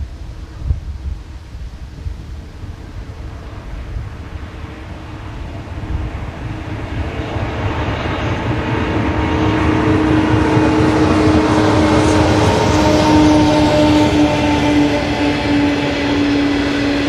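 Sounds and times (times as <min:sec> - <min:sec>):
train rumbling past: 0:02.4 - 0:17.0.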